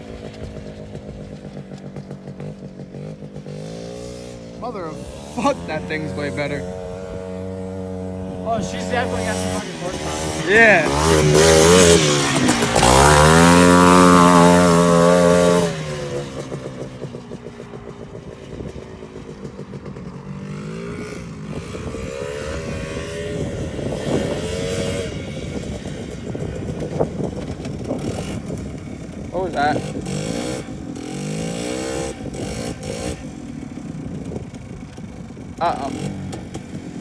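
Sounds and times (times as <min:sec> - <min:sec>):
quad bike engine revving: 0:00.0 - 0:37.0.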